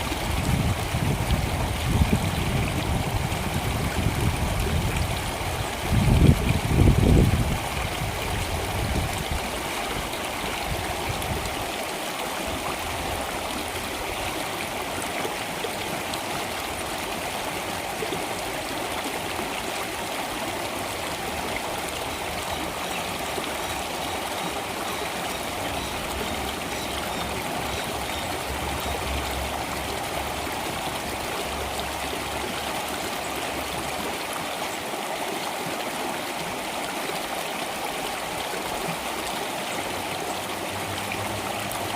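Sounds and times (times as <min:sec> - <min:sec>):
water rushing: 0:00.0 - 0:41.9.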